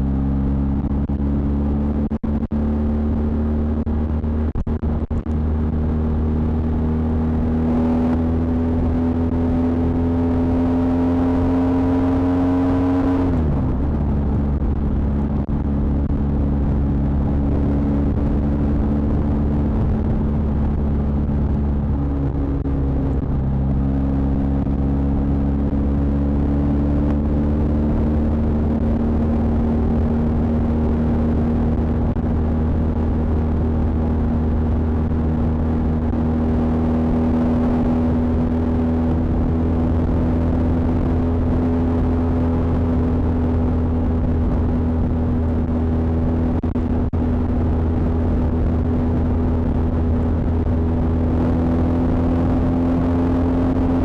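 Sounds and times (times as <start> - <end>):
low rumble: 0.0 - 54.0
motorcycle engine on the road: 0.0 - 54.0.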